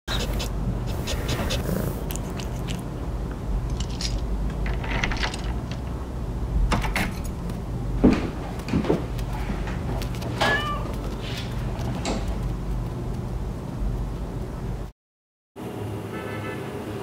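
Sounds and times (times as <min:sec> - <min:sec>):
low steady hum: 0:00.1 - 0:14.9.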